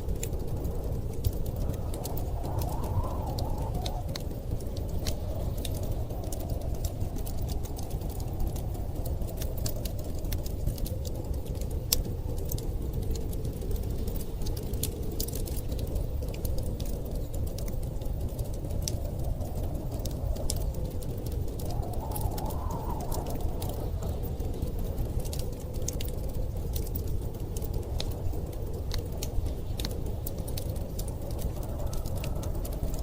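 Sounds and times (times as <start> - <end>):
storm wind rushing: 0.0 - 33.0
wood fire crackling and popping: 0.0 - 33.0.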